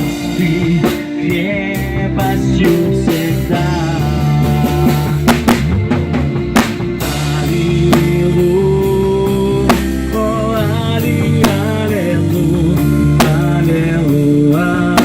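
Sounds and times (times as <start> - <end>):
band playing instrumental: 0.0 - 15.0
drum kit hits: 0.0 - 15.0.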